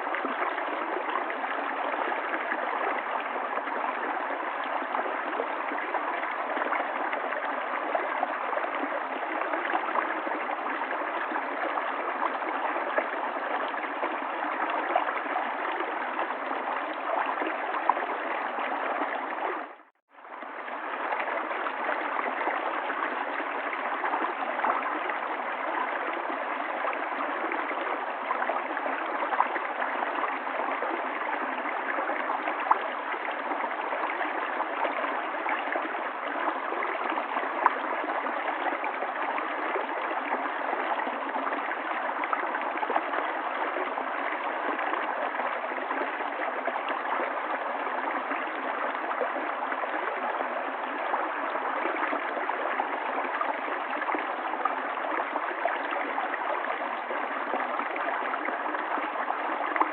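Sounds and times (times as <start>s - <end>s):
river water flowing and gurgling: 0.0s - 59.9s.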